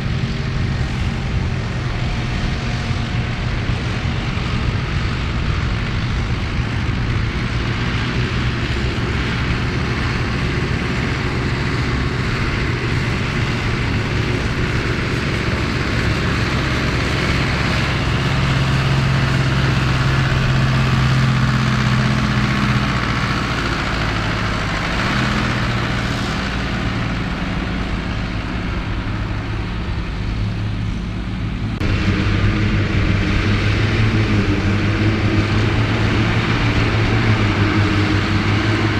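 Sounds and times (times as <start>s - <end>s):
forage harvester working: 0.0s - 38.9s
tractor diesel engine under load: 0.0s - 38.9s.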